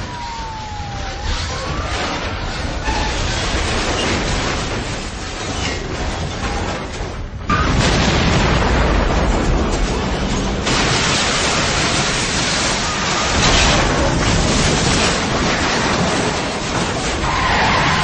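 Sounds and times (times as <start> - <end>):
rumbling explosions: 0.0 - 18.0.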